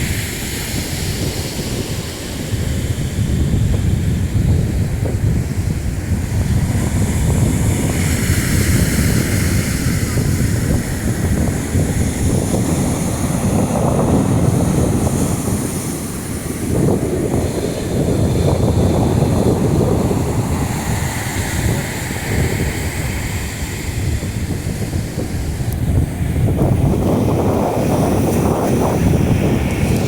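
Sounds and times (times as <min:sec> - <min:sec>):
sea surf on shore: 0:00.0 - 0:30.0
wind buffeting microphone: 0:00.0 - 0:30.0.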